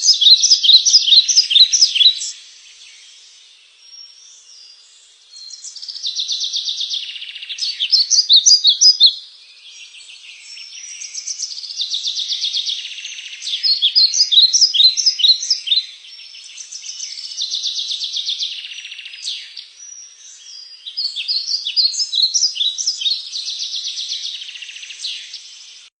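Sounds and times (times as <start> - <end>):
songbird singing trill: 0.0 - 25.9.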